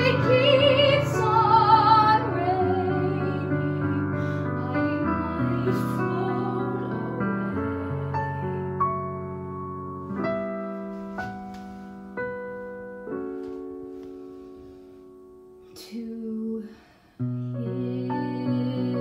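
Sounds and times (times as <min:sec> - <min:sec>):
piano playing slow chords: 0:00.0 - 0:16.4.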